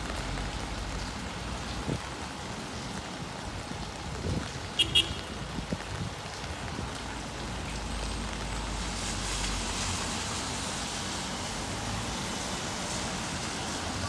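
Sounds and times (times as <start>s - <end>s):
car tyres hissing on wet road: 0.0s - 14.0s
rain: 0.0s - 14.0s
traffic noise: 0.0s - 14.0s.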